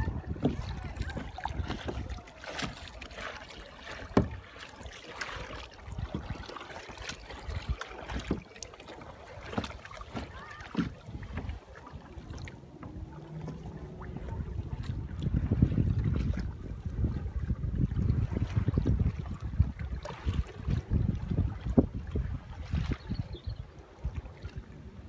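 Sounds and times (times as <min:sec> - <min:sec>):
wind buffeting microphone: 0:00.0 - 0:02.8, 0:05.6 - 0:08.5, 0:09.4 - 0:25.0
paddle blades splashing: 0:00.0 - 0:25.0
water lapping against kayak: 0:00.0 - 0:25.0.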